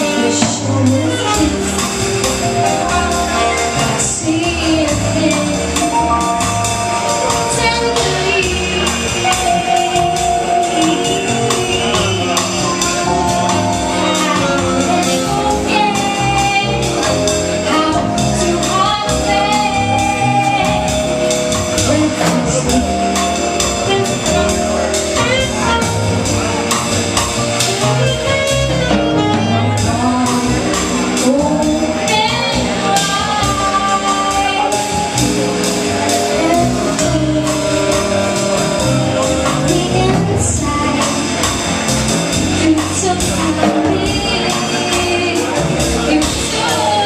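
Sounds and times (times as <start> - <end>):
piano bass and drums combo: 0.0 - 47.0
woman singing jazz ballad: 0.0 - 47.0.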